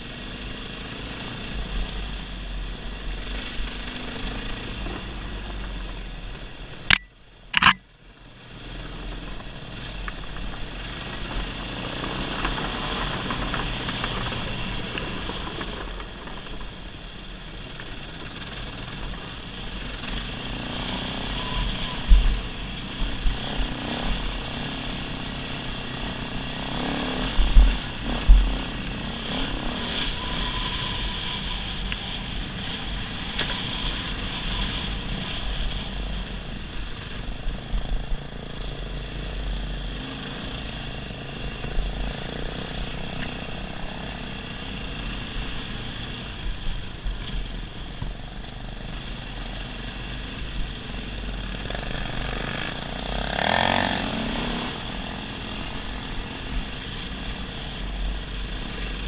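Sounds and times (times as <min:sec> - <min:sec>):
dirt bike engine running: 0:08.8 - 0:59.0.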